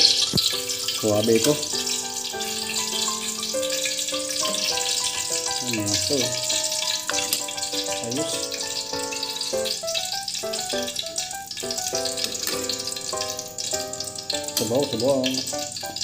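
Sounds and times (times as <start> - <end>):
background music with melody: 0.0 - 16.0
food sizzling: 0.0 - 16.0.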